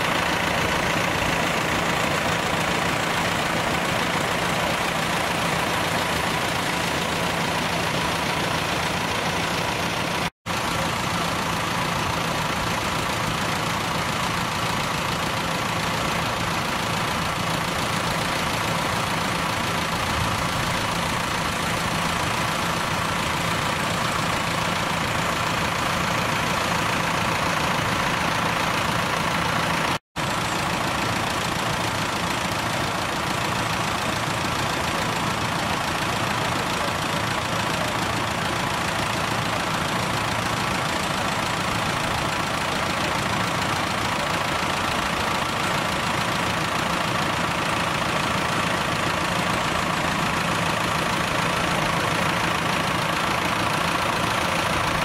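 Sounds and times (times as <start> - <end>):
tractor engines idling: 0.0 - 55.0.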